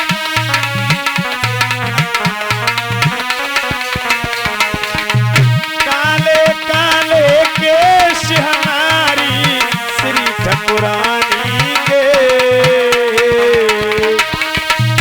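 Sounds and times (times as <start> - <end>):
hand drum rhythm: 0.0 - 15.0
ornamented melody line: 0.0 - 15.0.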